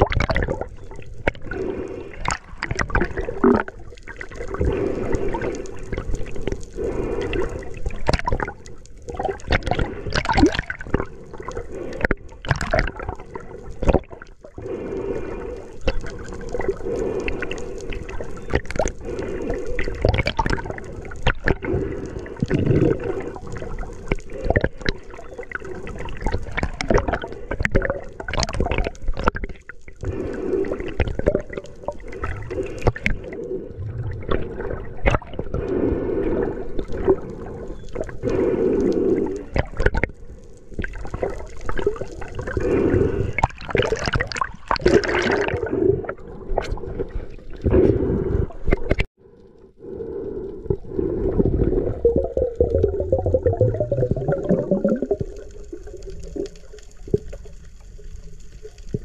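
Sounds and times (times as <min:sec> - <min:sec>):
water splashes: 0:00.0 - 0:49.1, 0:50.6 - 0:59.0
sea water sloshing and gurgling: 0:00.0 - 0:59.0.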